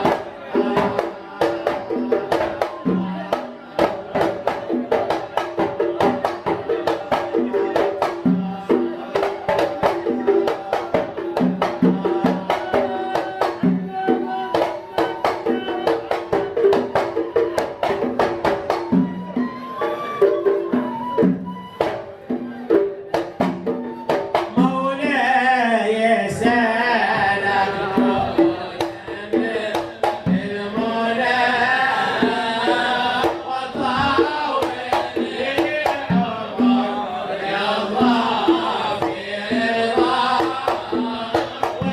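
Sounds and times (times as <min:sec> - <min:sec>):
group of voices singing: 0:00.0 - 0:41.9.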